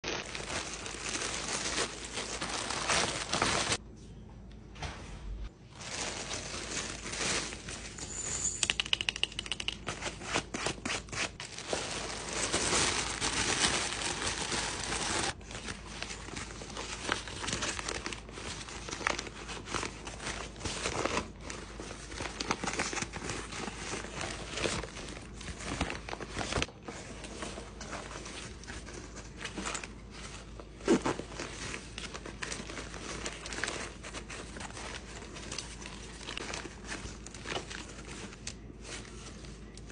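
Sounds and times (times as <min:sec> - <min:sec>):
plastic bags crinkling: 0:00.0 - 0:03.8, 0:05.7 - 0:08.3, 0:11.3 - 0:39.9.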